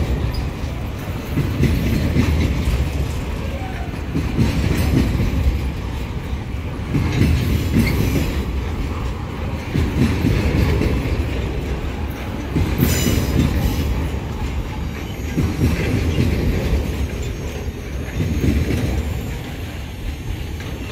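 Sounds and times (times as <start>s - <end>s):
steel wheels clattering over rail joints: 0.0s - 20.9s.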